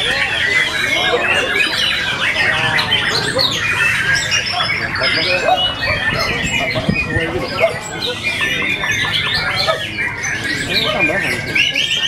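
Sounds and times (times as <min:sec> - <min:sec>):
chorus of birds whistling: 0:00.0 - 0:12.0.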